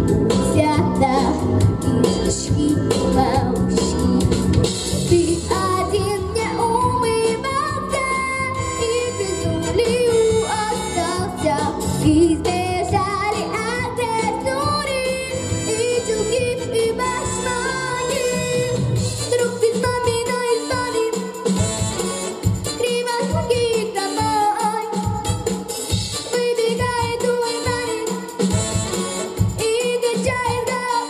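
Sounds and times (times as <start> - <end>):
backing music: 0.0 - 31.0
girl singing into microphone: 0.5 - 3.9, 5.1 - 21.5, 22.7 - 25.4, 26.2 - 28.4, 29.5 - 31.0.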